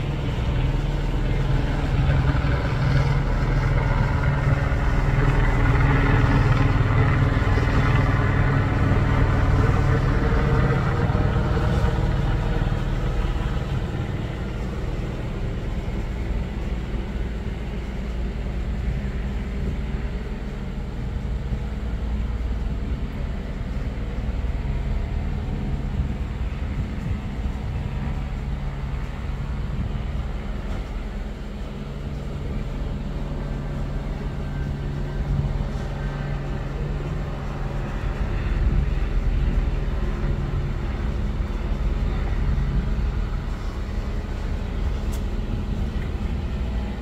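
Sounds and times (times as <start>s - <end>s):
faint voices: 0.0s - 47.0s
vehicle engine idling: 0.0s - 47.0s.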